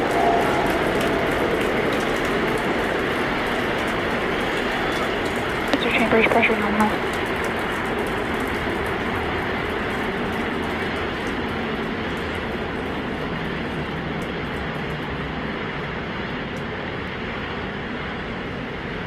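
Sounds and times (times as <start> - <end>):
rocket engines roaring: 0.0 - 19.0.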